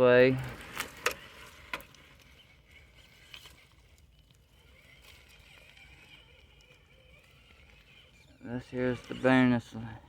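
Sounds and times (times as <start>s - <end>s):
rc crawler creeping over ground: 0.0s - 10.0s.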